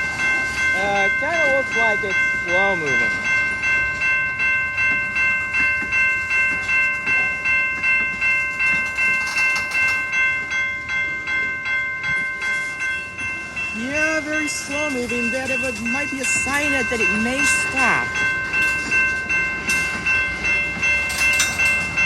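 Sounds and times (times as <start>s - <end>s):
railroad crossing bell dinging: 0.0s - 22.0s
slow train passing: 0.0s - 22.0s.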